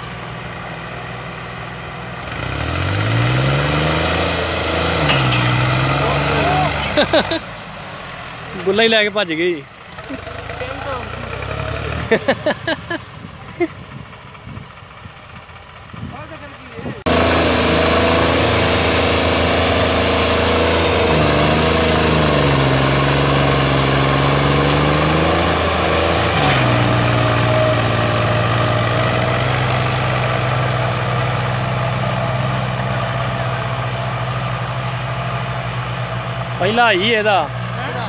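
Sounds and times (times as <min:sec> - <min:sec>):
tractor diesel engines: 0:00.0 - 0:38.0.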